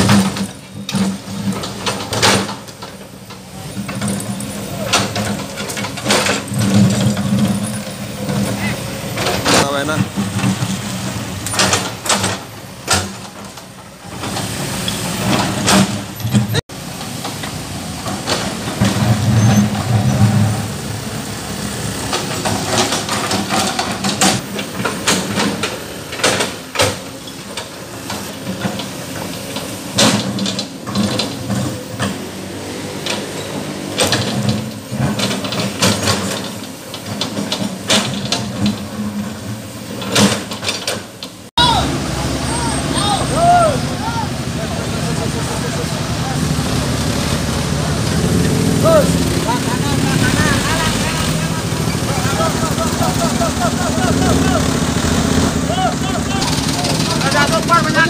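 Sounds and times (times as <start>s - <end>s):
car engines running slowly: 0.0s - 58.0s
traffic noise: 0.0s - 58.0s.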